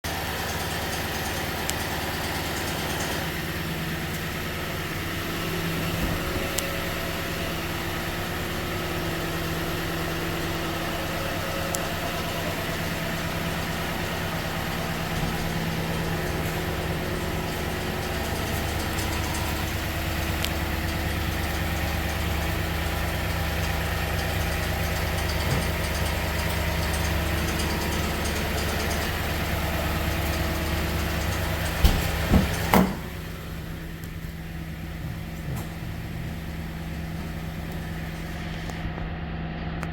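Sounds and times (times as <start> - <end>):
car engine idling: 0.0 - 39.9
rapid engine clicking: 0.0 - 39.9.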